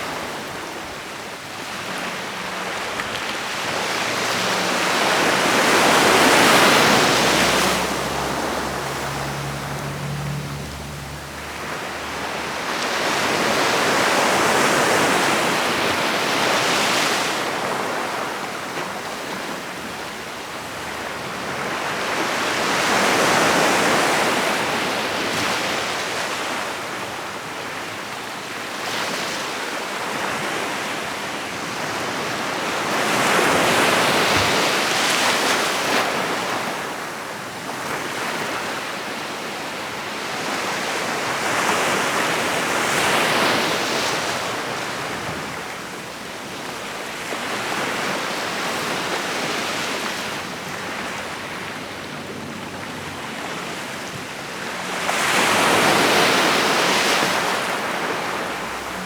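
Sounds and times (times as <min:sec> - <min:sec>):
sea surf breaking: 0:00.0 - 0:28.0, 0:28.8 - 0:59.0.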